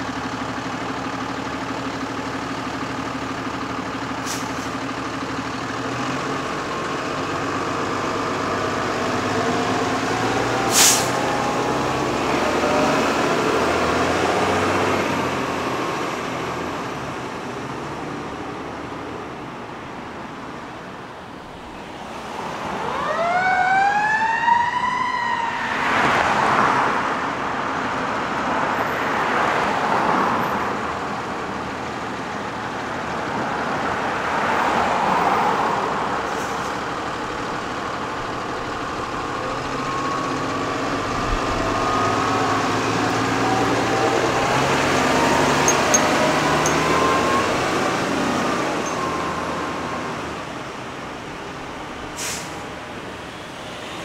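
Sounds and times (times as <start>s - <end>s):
truck engine: 0.0s - 54.0s
fire engine siren wailing: 3.8s - 17.4s, 22.3s - 54.0s.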